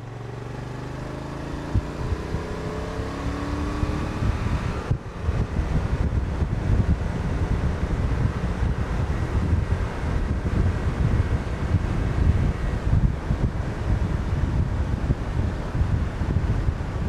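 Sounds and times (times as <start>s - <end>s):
motorcycle engine accelerating: 0.0s - 17.0s
wind rumble on microphone: 0.0s - 17.0s.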